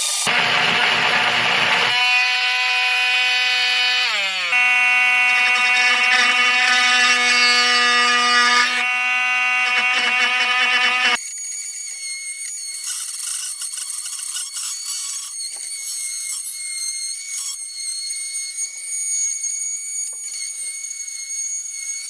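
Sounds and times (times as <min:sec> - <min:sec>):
oscillating multi-tool buzzing: 0:00.0 - 0:00.4, 0:01.9 - 0:22.0
oscillating tool blade grinding wood: 0:00.0 - 0:22.0.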